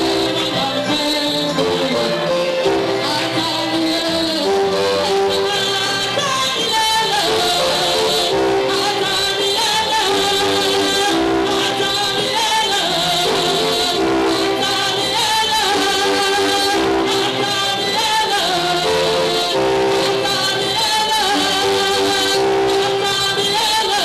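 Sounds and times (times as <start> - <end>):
instrumental accompaniment: 0.0 - 24.0
voices singing: 0.0 - 24.0.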